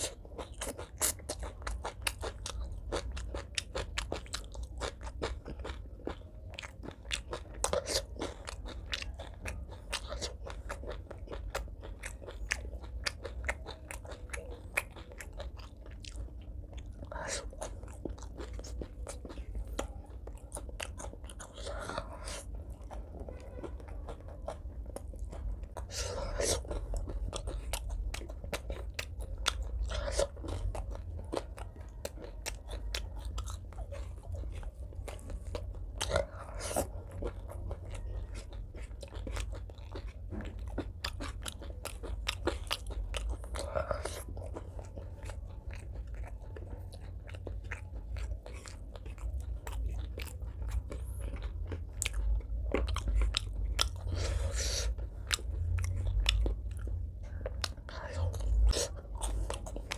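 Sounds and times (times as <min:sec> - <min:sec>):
chewing and crunching food: 0:00.0 - 0:59.9
steady low hum: 0:00.0 - 0:59.9.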